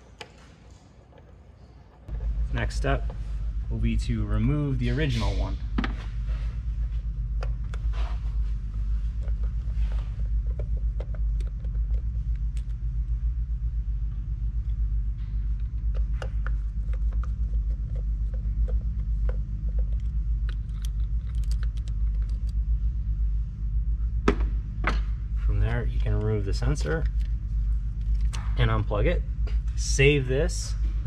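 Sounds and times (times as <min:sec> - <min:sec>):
steady low rumble: 0:02.0 - 0:31.0.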